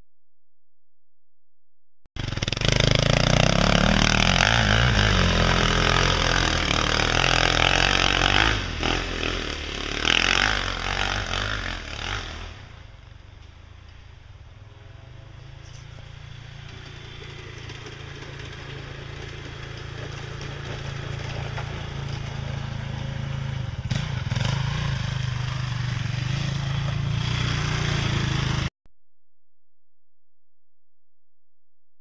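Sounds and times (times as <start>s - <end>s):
atv engine running hard: 2.2s - 28.7s.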